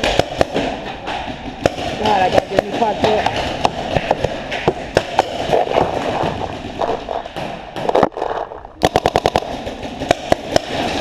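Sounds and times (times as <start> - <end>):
paintball markers firing: 0.0 - 11.0.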